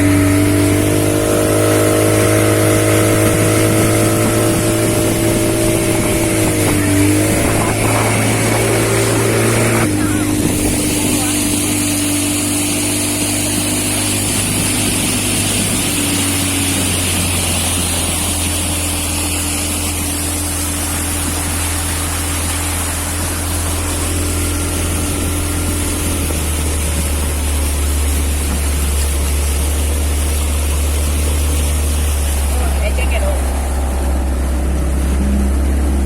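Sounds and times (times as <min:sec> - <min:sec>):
outboard motor running: 0:00.0 - 0:36.0
rushing wind and water: 0:00.0 - 0:36.0.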